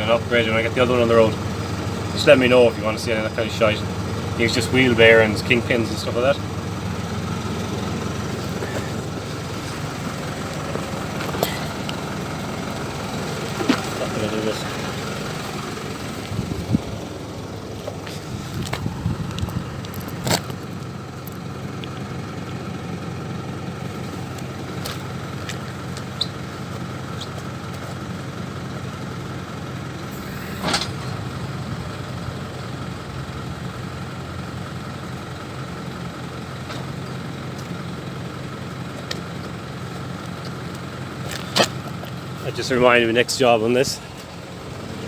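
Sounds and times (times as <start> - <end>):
steady whine: 0.0 - 20.6, 28.4 - 45.0
diesel truck engine idling: 0.0 - 45.0.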